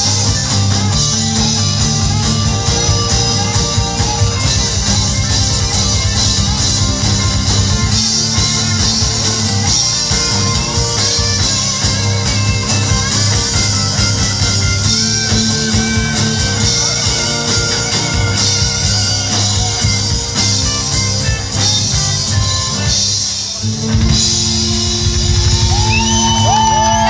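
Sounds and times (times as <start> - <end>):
electric guitar lead: 0.0 - 27.0
live band playing: 0.0 - 27.0.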